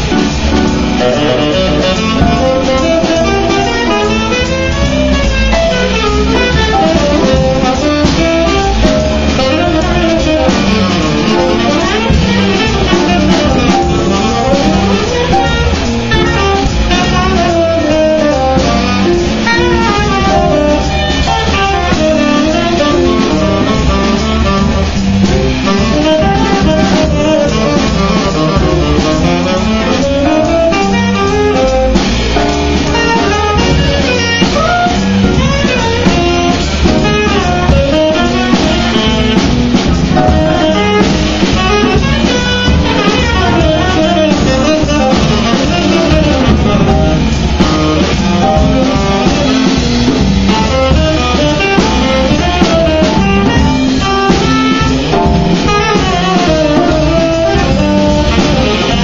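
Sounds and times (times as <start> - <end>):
drum kit with cymbals: 0.0 - 59.0
plucked double bass: 0.0 - 59.0
tenor saxophone melody: 0.0 - 59.0.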